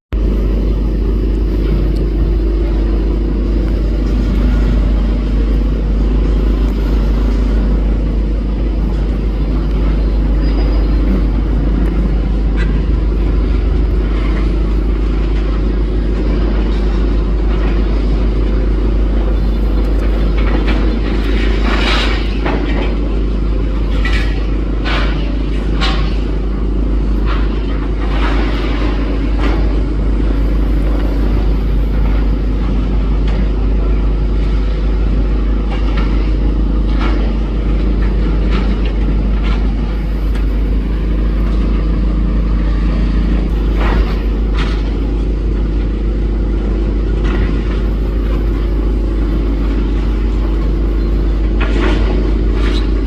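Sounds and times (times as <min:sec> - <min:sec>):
excavator rumbling: 0:00.1 - 0:53.0
crunching and clattering debris: 0:01.0 - 0:53.0.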